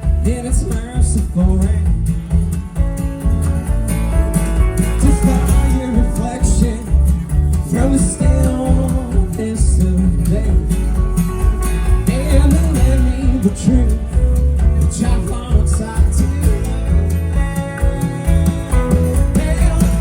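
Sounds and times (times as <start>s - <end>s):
live country band playing: 0.0s - 20.0s.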